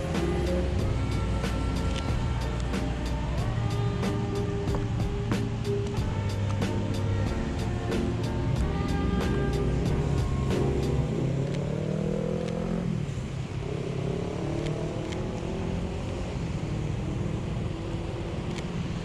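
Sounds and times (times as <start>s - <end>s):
vehicle engines pulling away: 0.0s - 19.0s.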